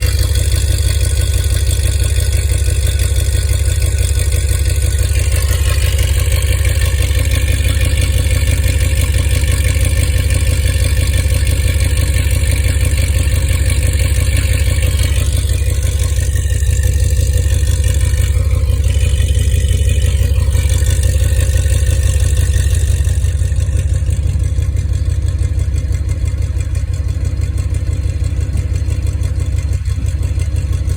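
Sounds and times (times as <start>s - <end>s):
misfiring truck engine running: 0.0s - 30.9s.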